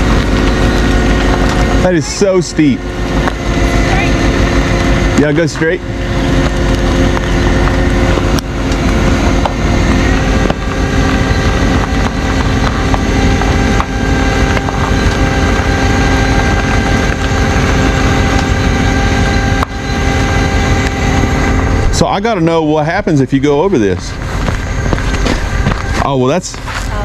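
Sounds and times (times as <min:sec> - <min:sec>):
vehicle engine running steadily: 0:00.0 - 0:27.0.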